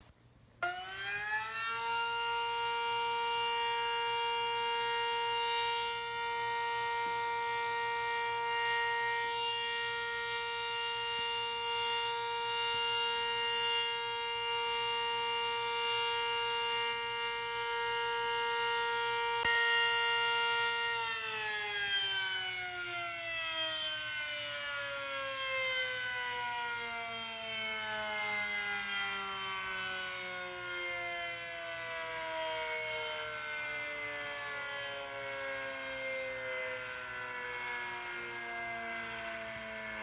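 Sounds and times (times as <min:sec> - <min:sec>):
two-tone tornado siren wailing: 0:00.6 - 0:40.0.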